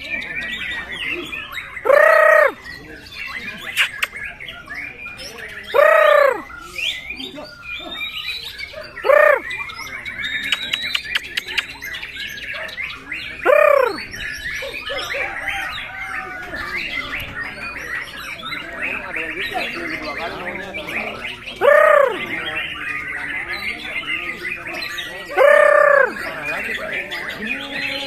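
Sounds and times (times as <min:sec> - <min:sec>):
songbird twittering: 0:00.0 - 0:28.0
loud arching bird calls: 0:00.3 - 0:28.0.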